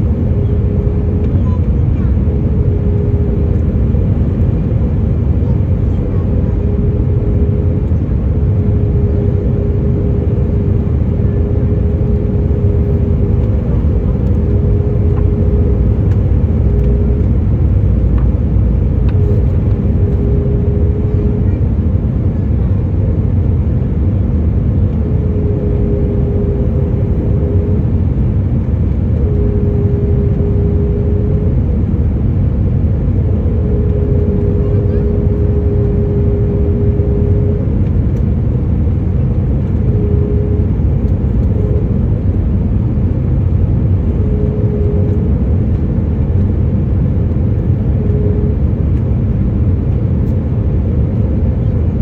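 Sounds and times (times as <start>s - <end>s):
airplane engine rumble in cabin: 0.0s - 52.0s
thin humming tone: 0.0s - 52.0s.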